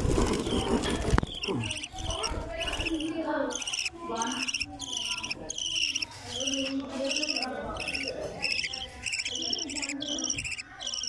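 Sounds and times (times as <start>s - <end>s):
budgerigar chicks chirping: 0.0s - 11.0s.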